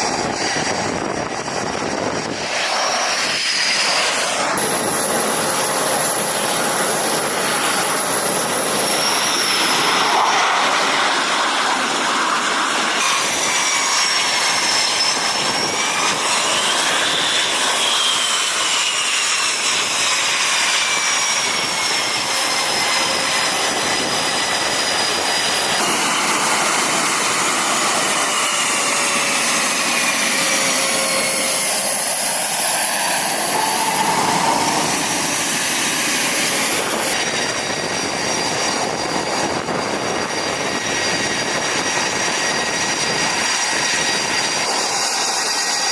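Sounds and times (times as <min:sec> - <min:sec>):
high turbine whines: 0:00.0 - 0:45.9
jet engines roaring: 0:00.0 - 0:45.9.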